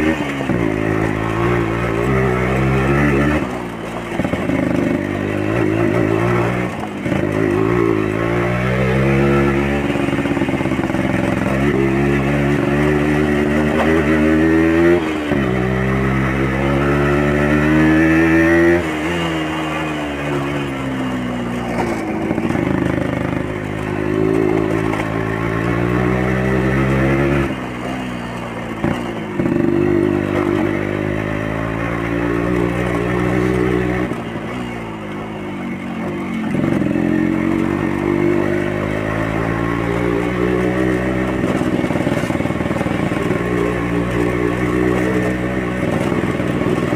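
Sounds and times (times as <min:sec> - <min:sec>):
two-stroke motorcycle accelerating: 0:00.0 - 0:46.9.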